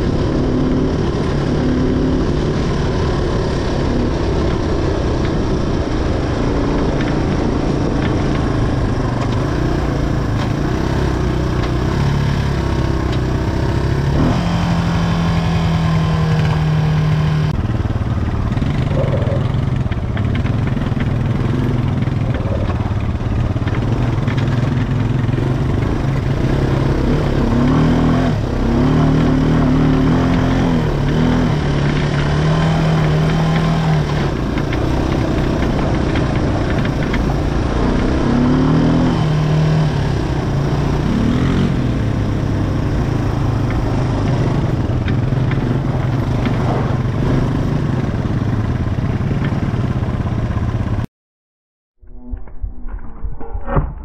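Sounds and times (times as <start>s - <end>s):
atv engine running: 0.0s - 51.1s.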